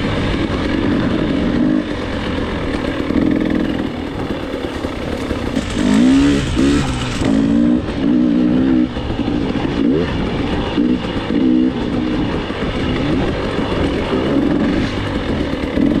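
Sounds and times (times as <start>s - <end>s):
dirt bike engine revving: 0.3s - 16.0s.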